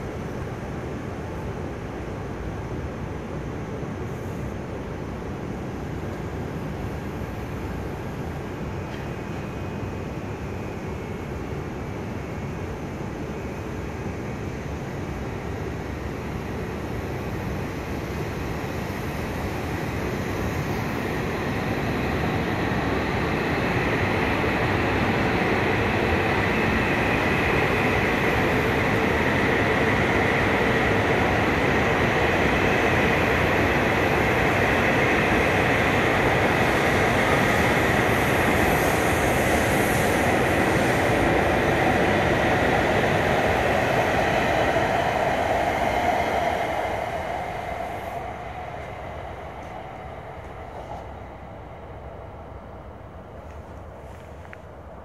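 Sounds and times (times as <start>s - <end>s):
train passing with running noise: 0.0s - 55.0s.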